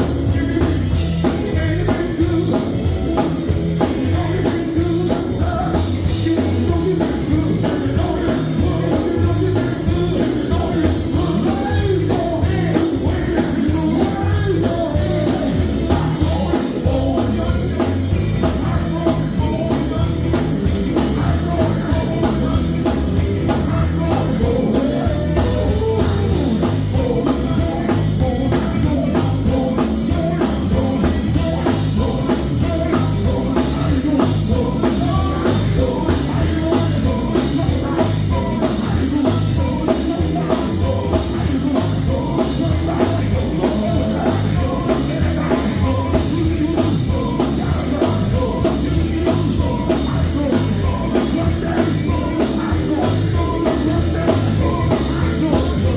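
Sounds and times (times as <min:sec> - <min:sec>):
band with drum kit: 0:00.0 - 0:55.9
vocal group singing gospel: 0:00.0 - 0:55.9.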